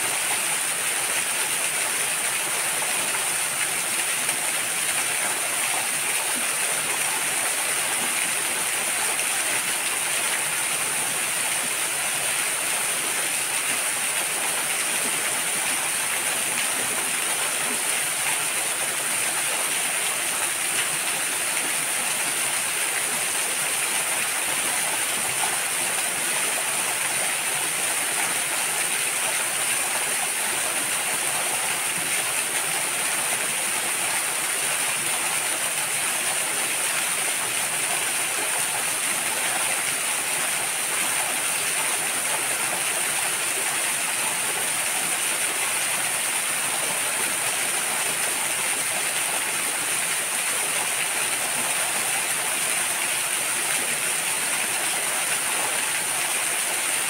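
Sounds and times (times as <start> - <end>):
waterfall pouring: 0.0 - 57.0.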